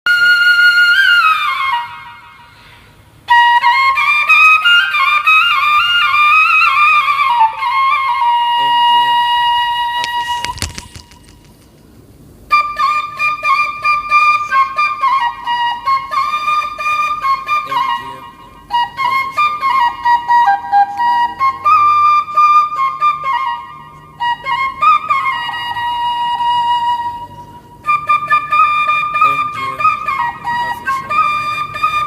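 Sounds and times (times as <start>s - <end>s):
solo flute melody: 0.1s - 11.0s, 12.5s - 32.0s.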